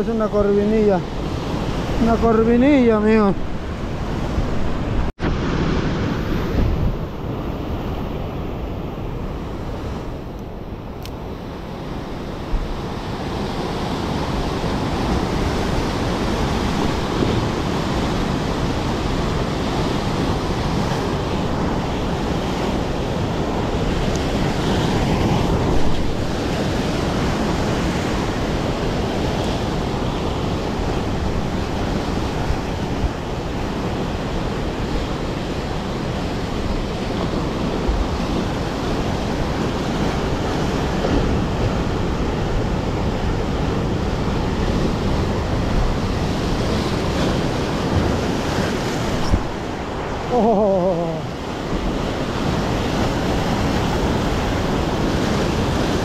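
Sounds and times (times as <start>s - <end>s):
wind buffeting microphone: 0.0s - 50.4s
surf washing on shore: 0.0s - 56.0s.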